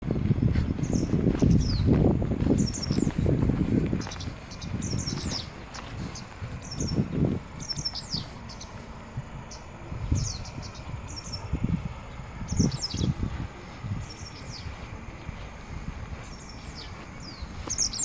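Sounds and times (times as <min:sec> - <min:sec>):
low rumbling: 0:00.0 - 0:18.0
small birds chirping: 0:00.0 - 0:18.0.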